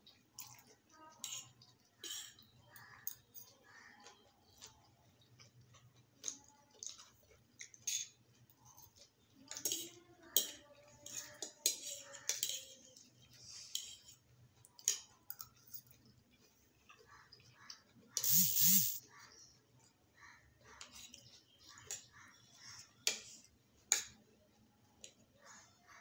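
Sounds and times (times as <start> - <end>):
chewing: 0.0 - 26.0.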